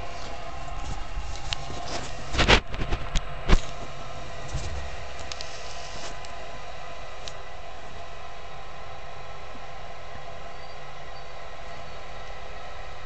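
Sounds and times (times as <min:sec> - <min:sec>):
furnace humming: 0:00.0 - 0:13.0.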